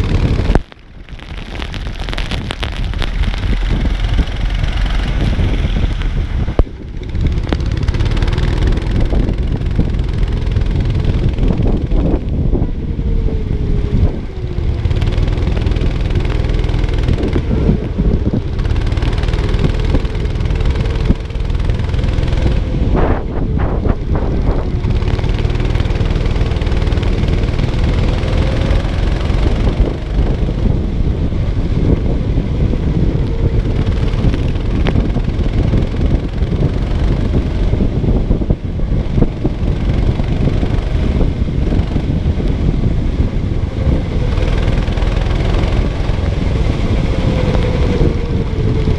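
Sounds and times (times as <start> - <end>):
kart engine running: 0.0 - 48.9
wind rumble on microphone: 0.0 - 48.9.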